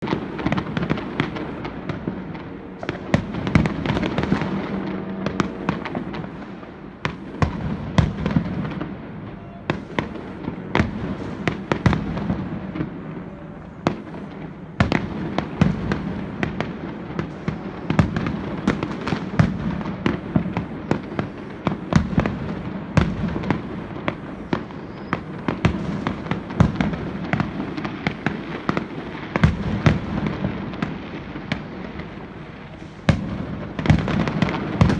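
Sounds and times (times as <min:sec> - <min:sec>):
fireworks bangs and cracks: 0:00.0 - 0:34.9
fireworks crackling: 0:00.0 - 0:34.9.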